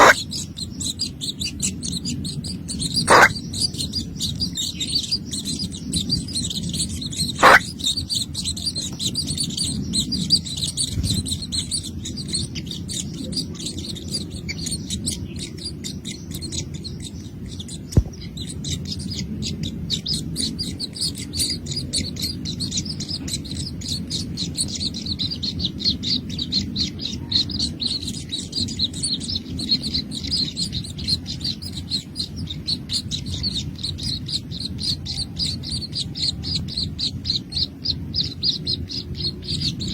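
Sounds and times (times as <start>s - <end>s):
baby birds chirping: 0.0s - 39.9s.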